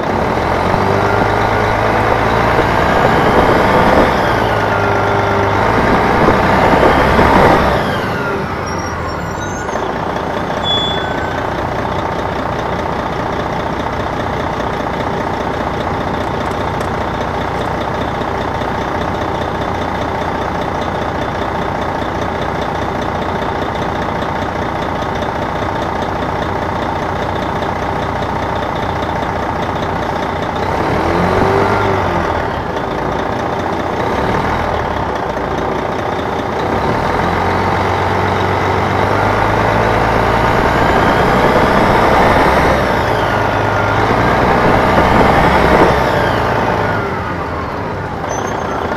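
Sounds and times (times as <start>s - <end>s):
bus diesel engine running: 0.0s - 48.9s.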